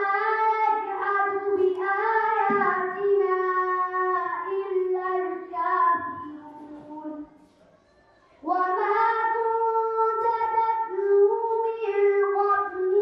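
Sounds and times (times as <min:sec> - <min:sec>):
girl chanting into a microphone: 0:00.0 - 0:07.4, 0:08.4 - 0:13.0.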